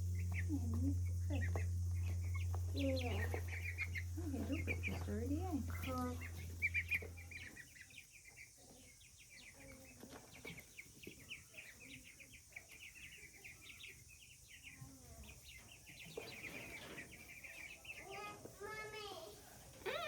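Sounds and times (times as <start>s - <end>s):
baby chicks cheeping: 0.0s - 20.0s.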